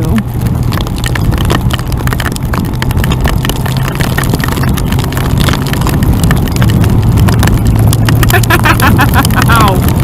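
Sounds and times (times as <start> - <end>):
hailstones clicking on motorcycle: 0.0 - 10.0
motorcycle engine at speed: 0.0 - 10.0.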